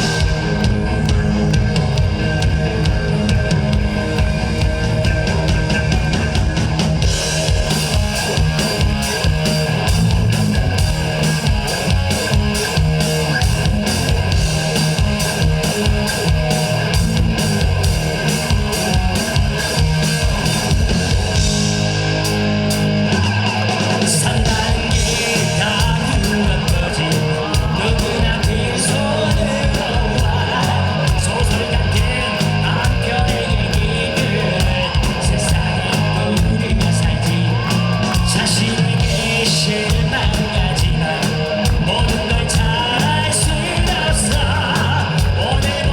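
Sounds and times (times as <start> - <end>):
bass: 0.0 - 45.9
electric guitar: 0.0 - 45.9
steady drum beat: 0.0 - 45.9.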